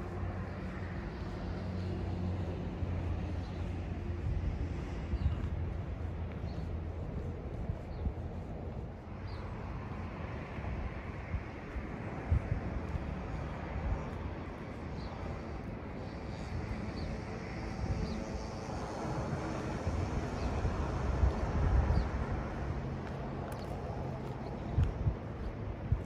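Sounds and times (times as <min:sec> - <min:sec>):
outdoor street hum: 0:00.0 - 0:26.0
wind buffeting microphone: 0:00.0 - 0:26.0.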